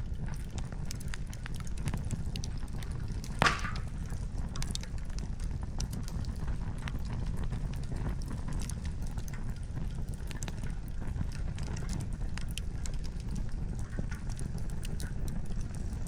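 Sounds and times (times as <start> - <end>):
campfire crackling and popping: 0.0 - 16.0
fire low rumble: 0.0 - 16.0.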